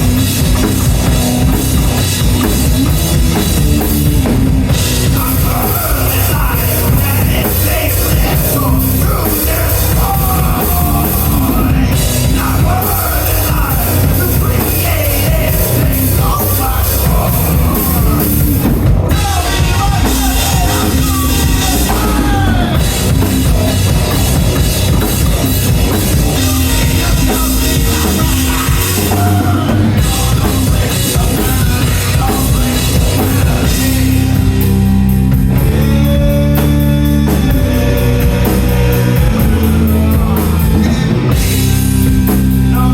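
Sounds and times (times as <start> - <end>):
distorted guitars: 0.0 - 42.9
drum kit beat: 0.0 - 42.9.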